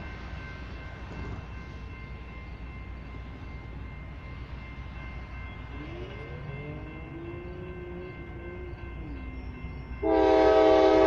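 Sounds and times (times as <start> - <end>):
crossing bells ringing: 0.0 - 11.0
distant freight train rumble: 0.0 - 11.0.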